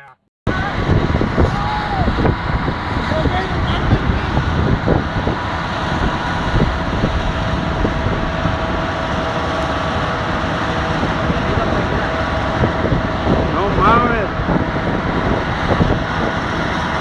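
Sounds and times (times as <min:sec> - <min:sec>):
vehicle running: 0:00.5 - 0:17.0
wind rumble: 0:00.5 - 0:17.0.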